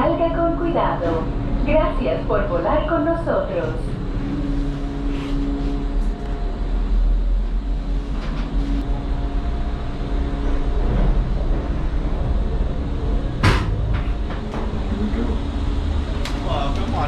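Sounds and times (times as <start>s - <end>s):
gondola machinery humming: 0.0s - 17.0s.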